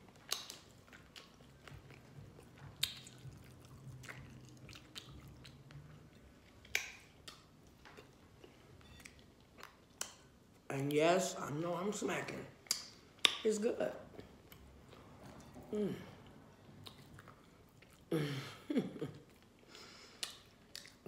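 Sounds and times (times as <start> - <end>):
person chewing with lip smacking: 0.0 - 10.6, 12.6 - 13.5, 14.1 - 18.1, 19.0 - 21.0.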